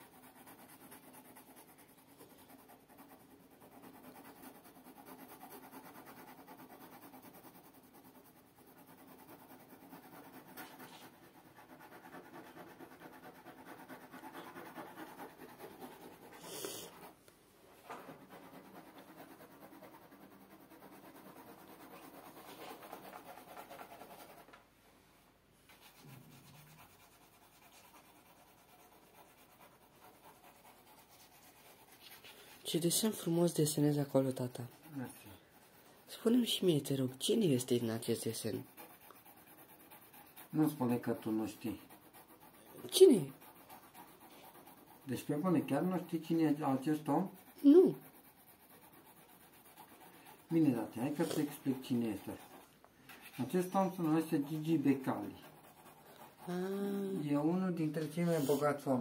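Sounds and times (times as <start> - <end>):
pencil scratching on paper: 0.0 - 24.6, 25.7 - 59.0.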